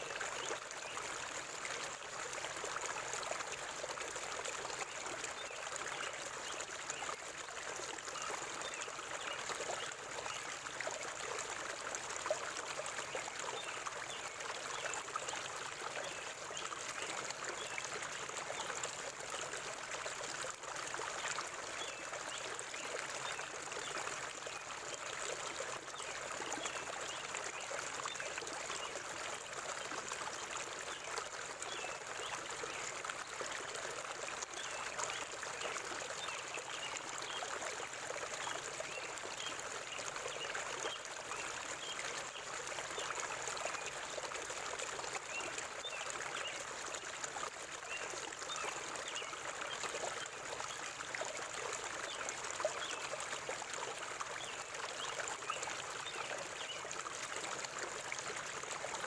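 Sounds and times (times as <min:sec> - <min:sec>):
river water babbling: 0:00.0 - 0:59.0.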